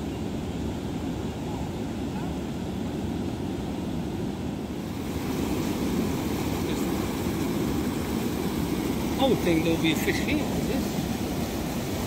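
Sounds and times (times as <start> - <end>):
water rushing over a weir: 0.0 - 12.0.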